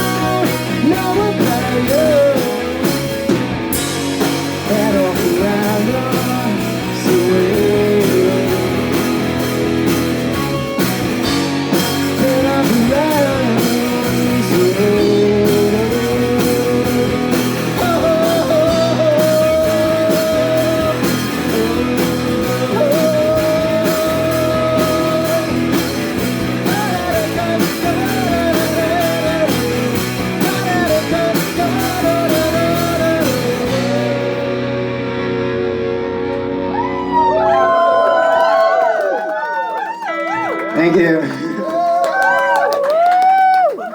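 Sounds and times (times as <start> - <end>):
live rock band playing: 0.0 - 43.1.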